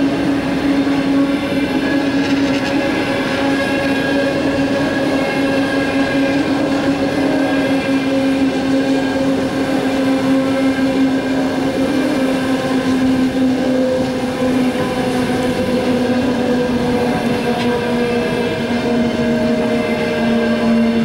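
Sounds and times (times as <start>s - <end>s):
train coaches rumbling past: 0.0s - 21.0s.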